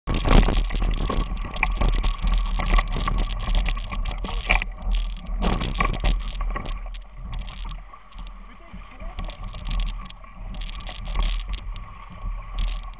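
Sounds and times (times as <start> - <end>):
water splashing around bike wheels: 0.1 - 12.9.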